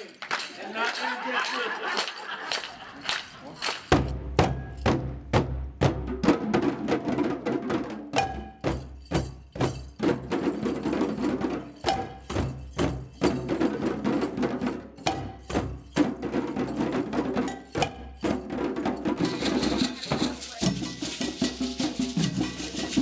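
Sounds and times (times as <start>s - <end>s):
djembe hand drums: 3.9s - 23.0s.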